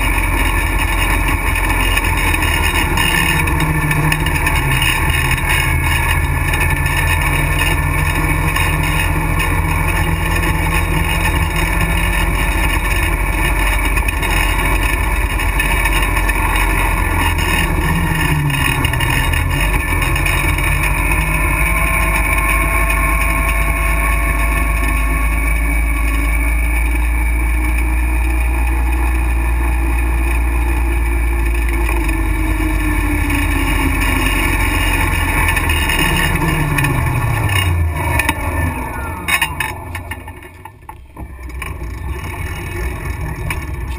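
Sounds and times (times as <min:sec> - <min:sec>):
motorcycle engine: 0:00.0 - 0:43.9
wind and road noise: 0:00.0 - 0:43.9.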